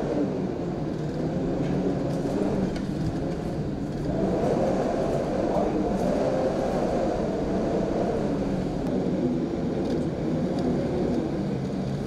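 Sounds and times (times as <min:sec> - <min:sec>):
rain: 0:00.0 - 0:12.0
strong wind blowing: 0:00.0 - 0:12.0.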